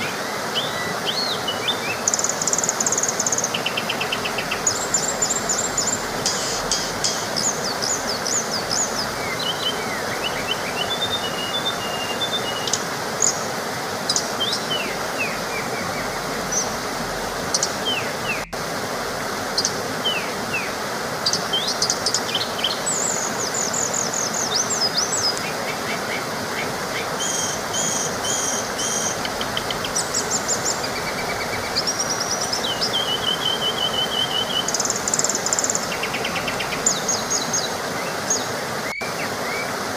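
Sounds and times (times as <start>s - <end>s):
birds chirping and trilling: 0.0s - 18.6s, 19.4s - 39.8s
small waterfall rushing: 0.0s - 39.9s.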